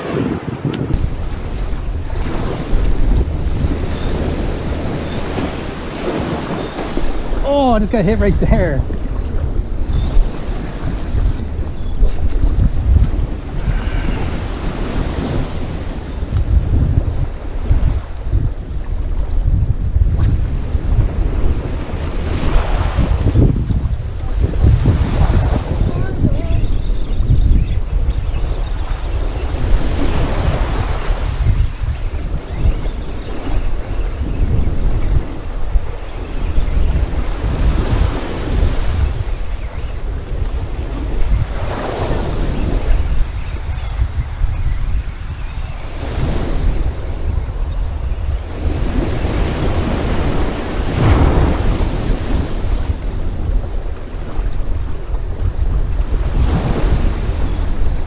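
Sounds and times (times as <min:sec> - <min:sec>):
small waves washing onto beach: 0:00.0 - 0:27.1, 0:27.8 - 0:58.0
wind buffeting microphone: 0:00.0 - 0:58.0.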